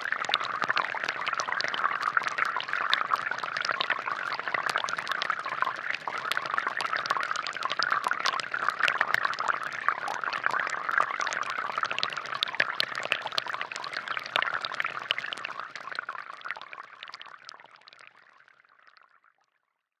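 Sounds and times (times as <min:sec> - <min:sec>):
fountain water trickling and splashing: 0:00.0 - 0:19.4.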